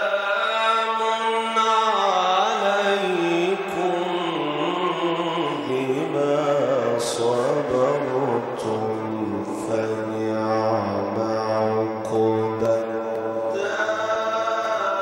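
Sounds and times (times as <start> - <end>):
man chanting melodically over speakers: 0.0 - 15.0.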